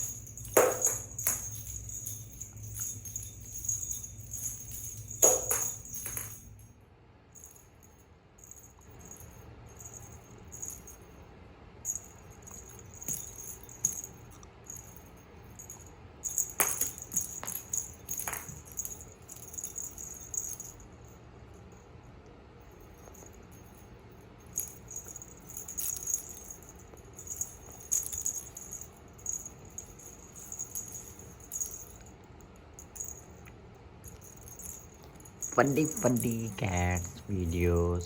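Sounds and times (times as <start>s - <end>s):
small bell jingling: 0.0s - 21.9s, 22.6s - 38.0s.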